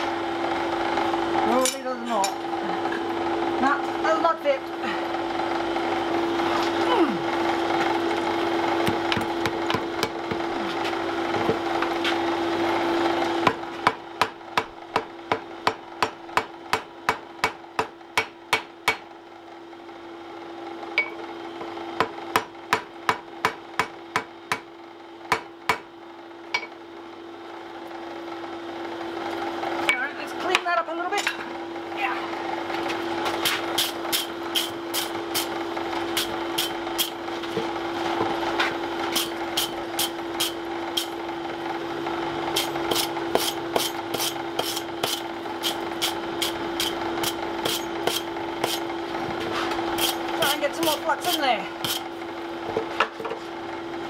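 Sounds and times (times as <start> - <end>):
forge blower humming: 0.0 - 54.0.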